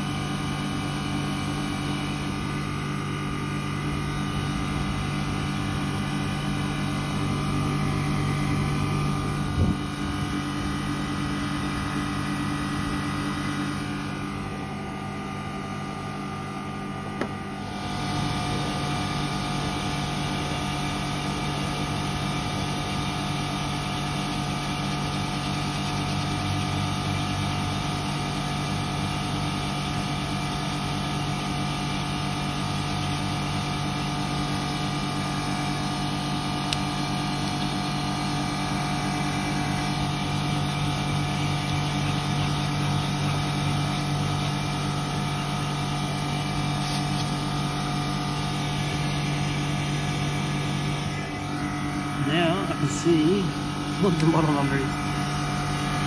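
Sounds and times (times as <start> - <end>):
air conditioner unit humming: 0.0 - 56.0.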